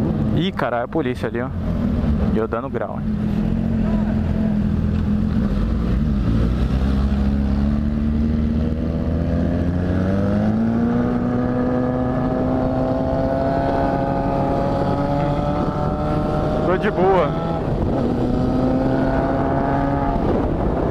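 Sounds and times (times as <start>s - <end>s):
motorcycle engine accelerating: 3.0s - 20.9s.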